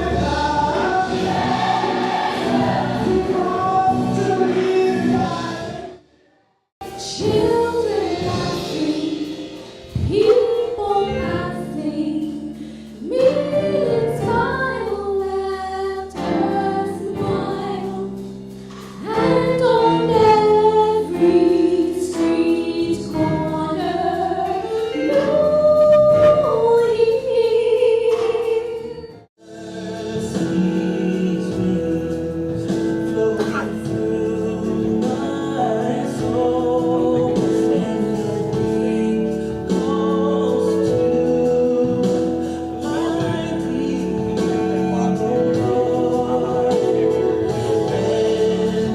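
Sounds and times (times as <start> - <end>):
choir singing gospel music: 0.0 - 48.9.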